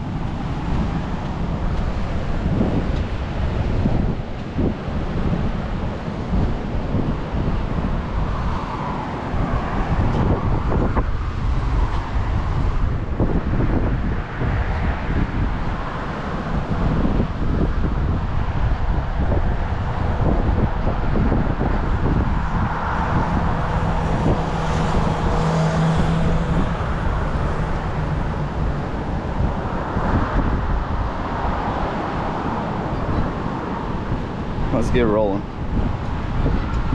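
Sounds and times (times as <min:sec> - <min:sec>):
passing engine hum: 0:00.0 - 0:36.9
road noise rumble: 0:00.0 - 0:36.9
wind buffeting microphone: 0:00.0 - 0:36.9.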